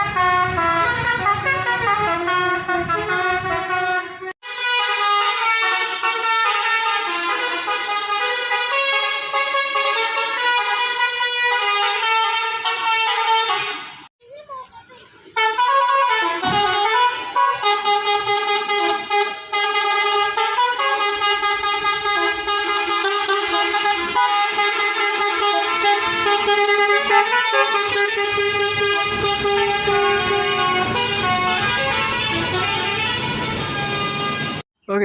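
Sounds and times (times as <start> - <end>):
musical bus horn melody: 0.0 - 14.1, 15.3 - 34.6.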